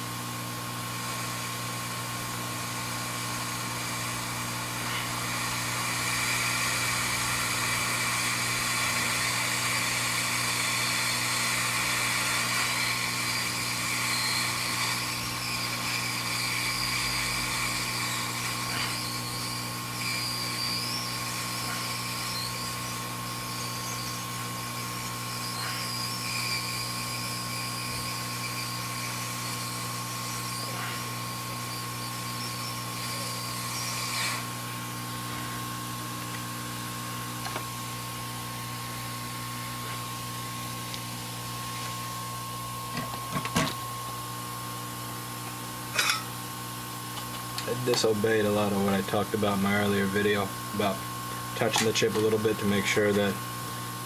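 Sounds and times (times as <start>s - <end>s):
electrical hum: 0.0s - 54.0s
hot air blower hissing: 0.0s - 54.0s.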